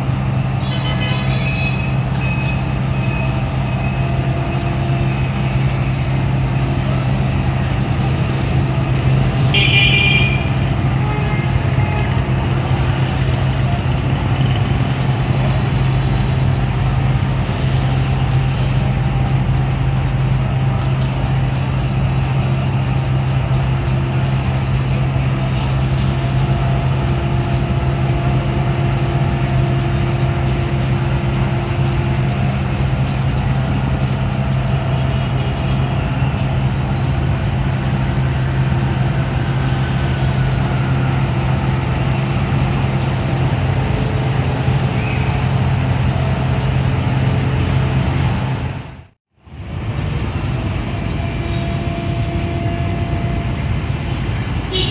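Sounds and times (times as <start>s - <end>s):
street noise: 0.0s - 54.9s.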